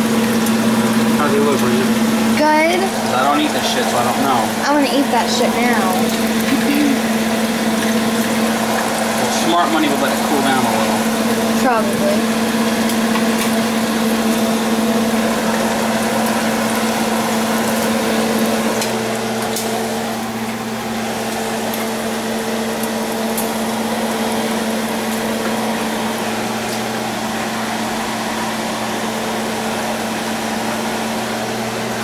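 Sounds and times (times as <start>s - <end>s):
shrimp sizzling in hot oil: 0.0s - 28.3s
constant hum: 0.0s - 32.0s.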